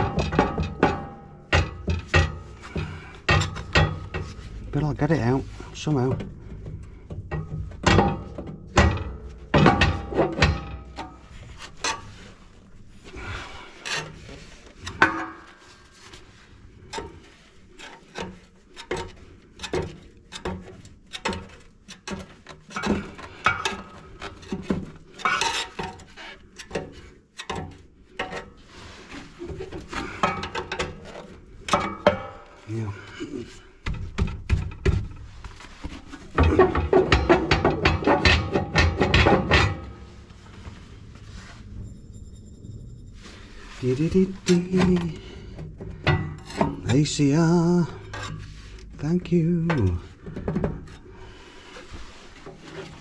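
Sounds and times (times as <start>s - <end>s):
brick knocking and scraping in stove: 0.0s - 16.2s, 16.8s - 41.7s, 43.5s - 49.0s.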